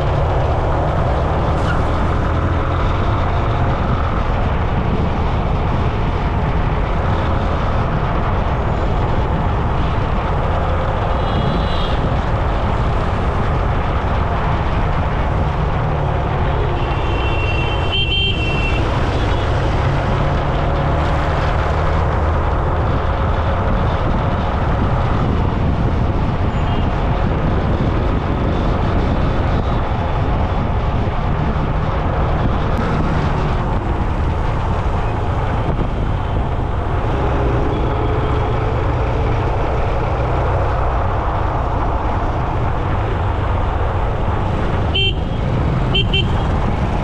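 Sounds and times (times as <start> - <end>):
road traffic rumble: 0.0 - 47.0
vehicles passing: 0.0 - 47.0.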